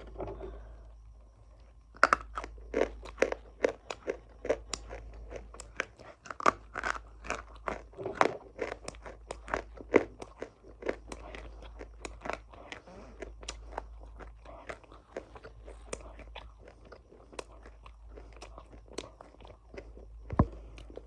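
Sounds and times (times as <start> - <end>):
crunchy food being chewed: 0.0 - 21.0.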